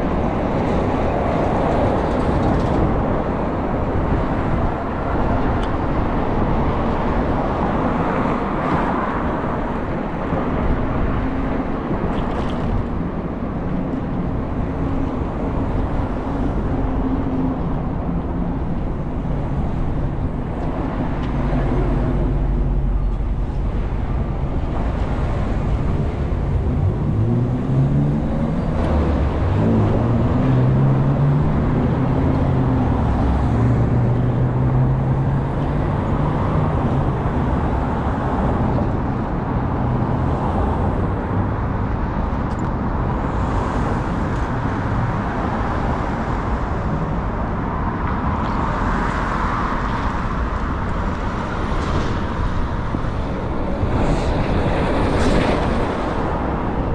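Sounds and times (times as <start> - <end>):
bus engine: 0.0 - 56.9
road and traffic noise: 0.0 - 56.9.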